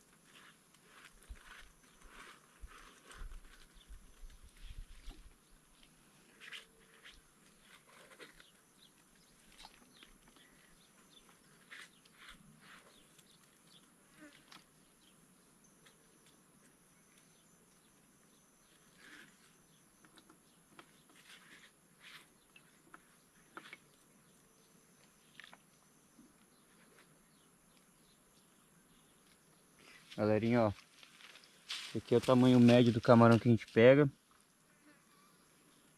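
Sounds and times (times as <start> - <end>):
high insect hum: 0.0 - 35.9.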